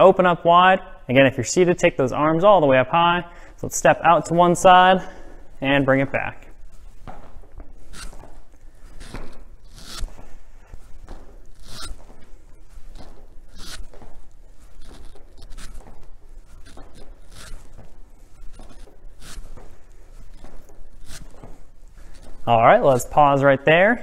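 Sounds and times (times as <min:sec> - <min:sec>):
soft steps on hard floor: 0:03.4 - 0:24.0
clothing swishing: 0:03.9 - 0:23.5.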